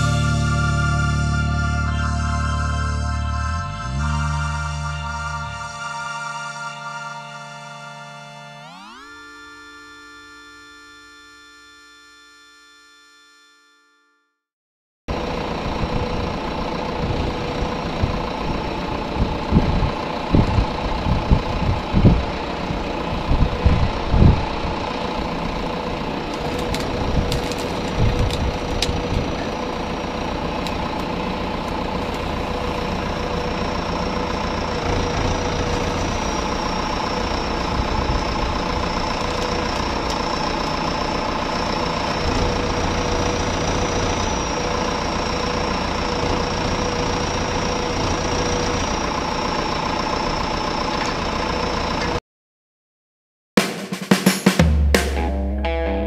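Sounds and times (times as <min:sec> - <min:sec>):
tractor engine running: 0:00.0 - 0:12.5, 0:15.1 - 0:52.2.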